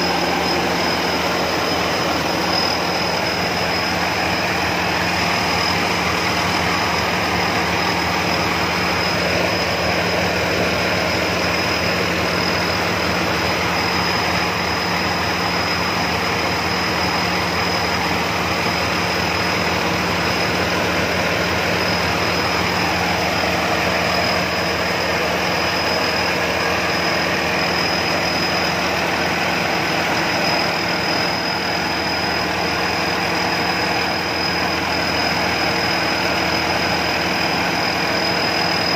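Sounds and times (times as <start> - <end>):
diesel engine running: 0.0 - 38.9
high-pitched whine: 0.0 - 38.9.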